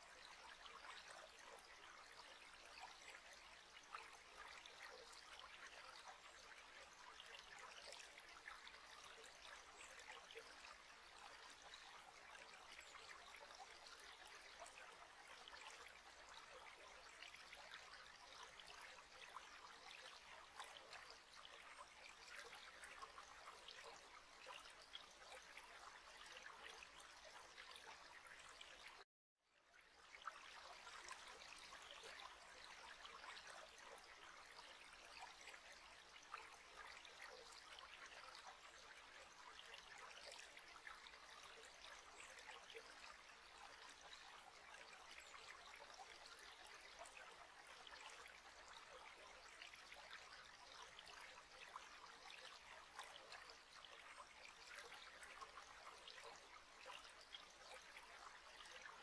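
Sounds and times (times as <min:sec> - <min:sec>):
faint trickling stream: 0:00.0 - 0:59.0.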